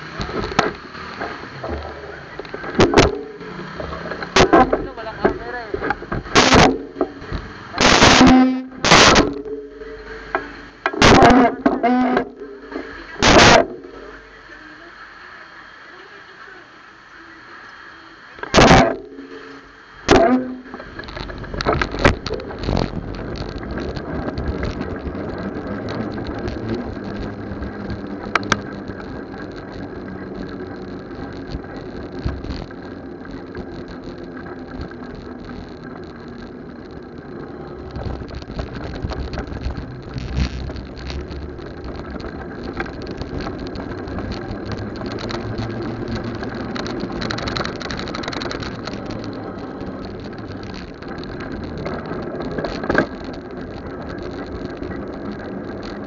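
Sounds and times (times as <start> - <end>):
bike tyres rushing and rattling: 0.0 - 16.6, 17.2 - 56.0
motorcycle engines: 0.0 - 56.0.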